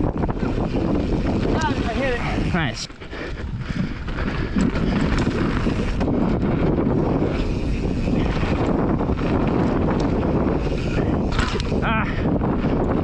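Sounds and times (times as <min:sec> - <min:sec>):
bike rattling: 0:00.0 - 0:13.0
bike tyres rolling on dirt: 0:00.0 - 0:13.0
wind on microphone: 0:00.0 - 0:13.0.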